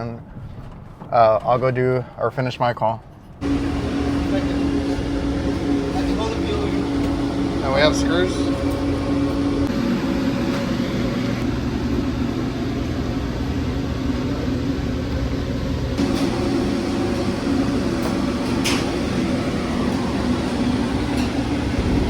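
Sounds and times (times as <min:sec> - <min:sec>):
machine hum: 0:03.4 - 0:22.0.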